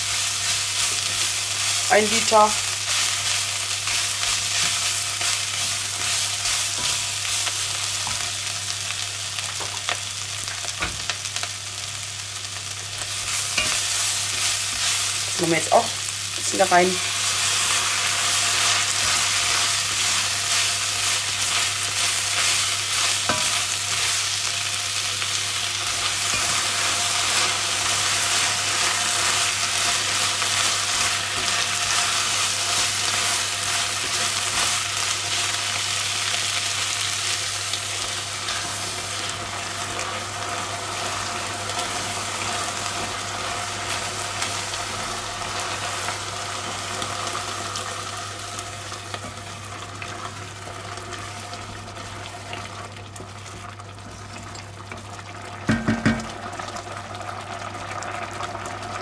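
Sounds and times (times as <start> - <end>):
vegetables sizzling in a pot: 0.0 - 59.0.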